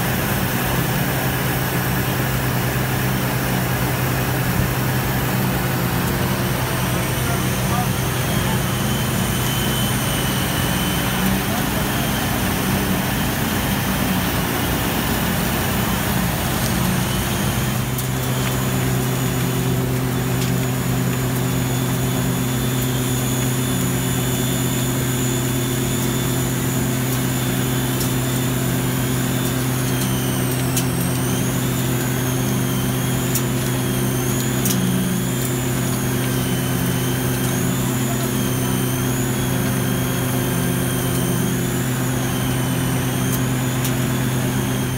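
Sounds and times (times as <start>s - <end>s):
faint wavering high whine: 0.0s - 44.9s
machinery engine humming: 0.0s - 44.9s.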